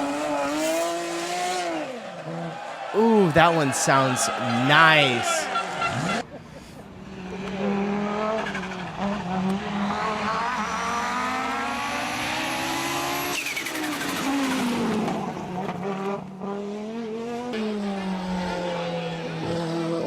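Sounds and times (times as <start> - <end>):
rally car engine accelerating: 0.0 - 2.9, 5.5 - 20.0.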